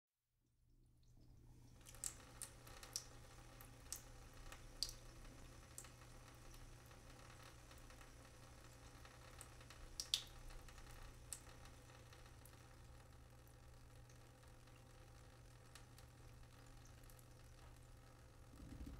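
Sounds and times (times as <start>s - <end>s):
faint low hum: 0.7s - 18.9s
water dripping: 1.0s - 18.9s.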